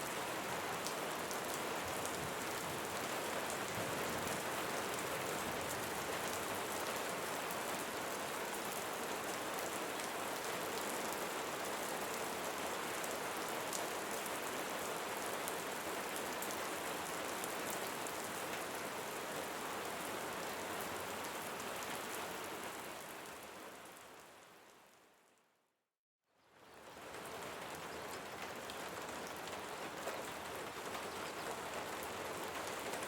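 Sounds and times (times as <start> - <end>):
rain pattering: 0.0 - 24.5, 26.6 - 33.0.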